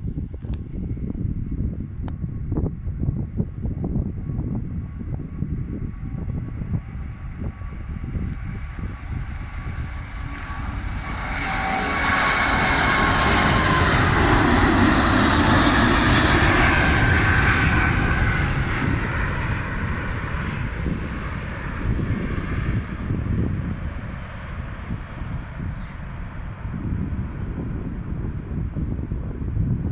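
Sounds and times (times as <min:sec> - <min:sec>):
jet engines roaring with high whine: 0:00.0 - 0:29.9.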